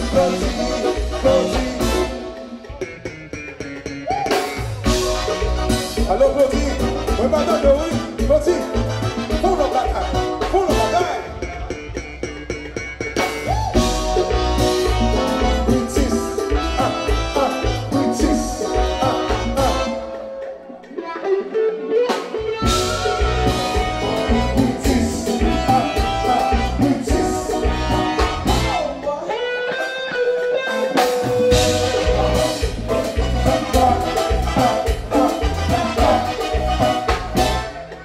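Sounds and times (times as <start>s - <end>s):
electric guitar: 0.0s - 38.0s
live band playing: 0.0s - 38.0s.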